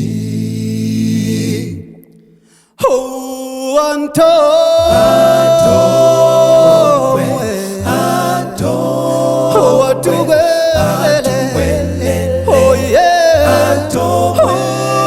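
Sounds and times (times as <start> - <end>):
a cappella group singing: 0.0 - 15.0.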